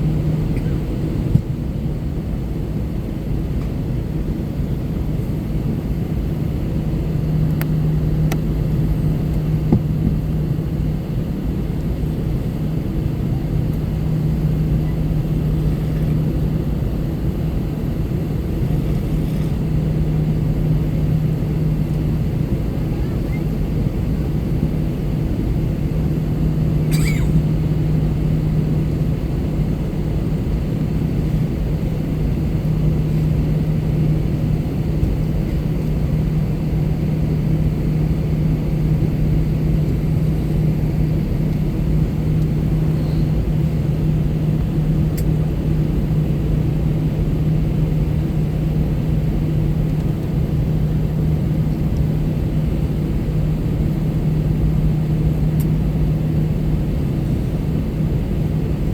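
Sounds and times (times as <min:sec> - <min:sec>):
airliner cabin drone: 0:00.0 - 0:58.9.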